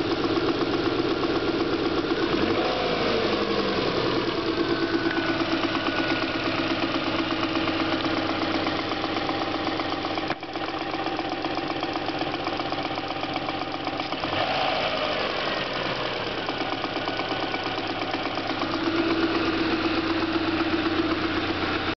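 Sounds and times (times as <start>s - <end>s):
engine running with rattling knock: 0.0s - 22.0s.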